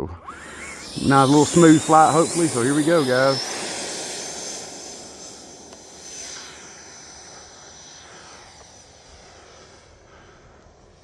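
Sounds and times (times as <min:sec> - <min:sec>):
electric ducted fan jet whine: 0:00.2 - 0:11.0.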